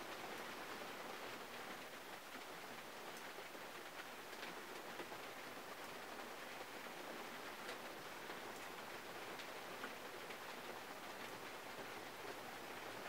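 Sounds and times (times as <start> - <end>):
rain heard from inside a car: 0.0 - 13.0.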